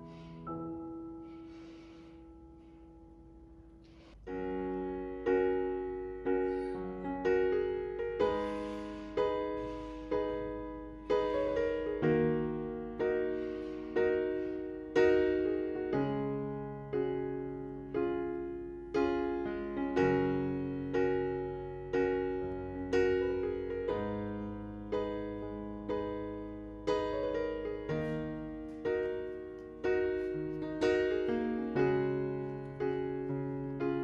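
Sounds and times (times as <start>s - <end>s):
slow gentle piano chords: 0.0s - 34.0s.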